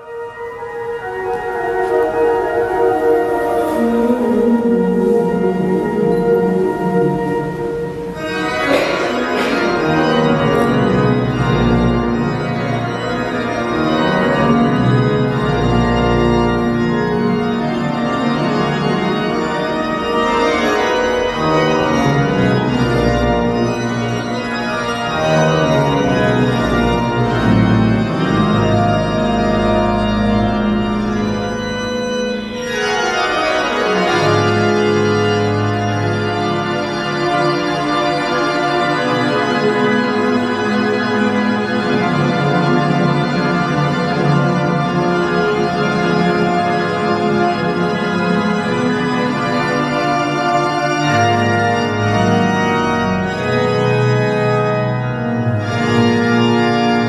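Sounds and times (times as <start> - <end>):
organ music over loudspeakers: 0.0 - 57.0.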